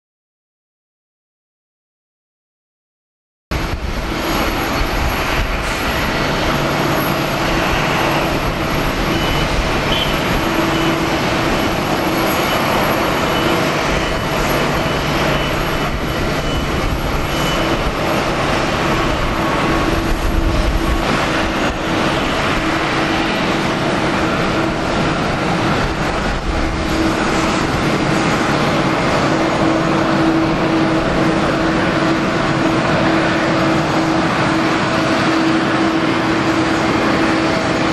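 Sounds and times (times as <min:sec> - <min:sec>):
jet engines rushing: 0:03.5 - 0:37.9.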